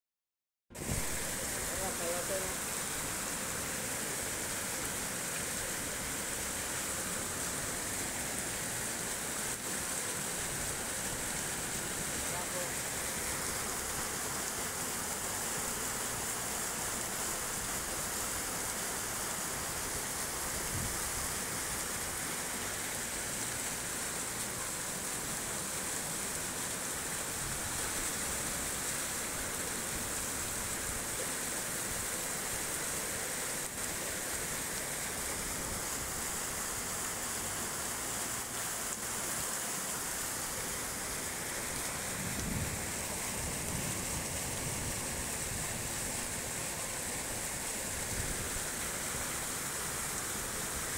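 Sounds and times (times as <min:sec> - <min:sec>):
floodwater rushing: 0:00.7 - 0:50.9.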